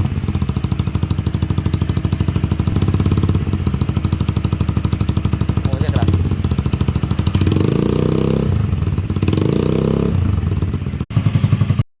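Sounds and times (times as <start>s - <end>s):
scooter engine idling and revving: 0.0s - 11.9s.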